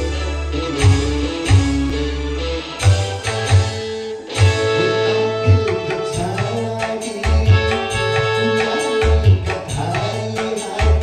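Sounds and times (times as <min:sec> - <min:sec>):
electric guitar: 0:00.0 - 0:11.0
live band music: 0:00.0 - 0:11.0.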